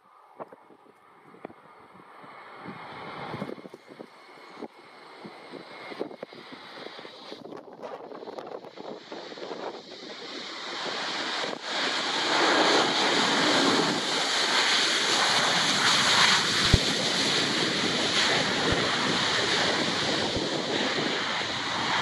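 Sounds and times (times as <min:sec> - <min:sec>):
wind buffeting microphone: 0:00.4 - 0:22.0
jet engine rush: 0:00.7 - 0:22.0.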